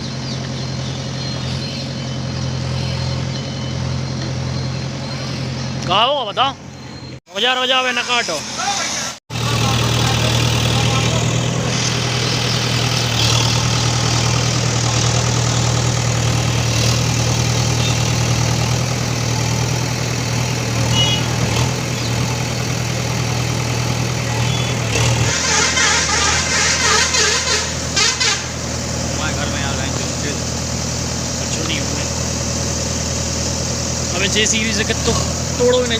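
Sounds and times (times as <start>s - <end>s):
diesel engine humming: 0.0s - 35.9s.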